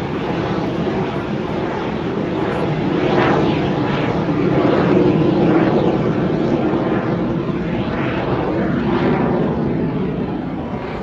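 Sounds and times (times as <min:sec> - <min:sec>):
airplane flying past: 0:00.0 - 0:11.0.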